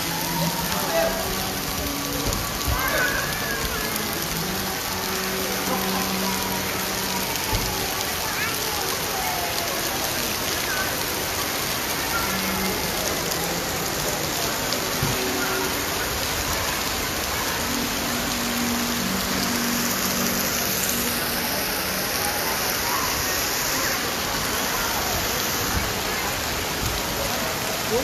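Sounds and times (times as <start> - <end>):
rain on wet pavement: 0.0 - 28.0.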